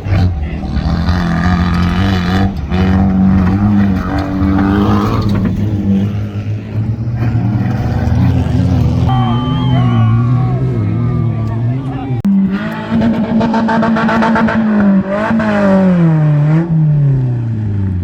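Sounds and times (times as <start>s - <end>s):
car engine revving hard: 0.0s - 18.0s.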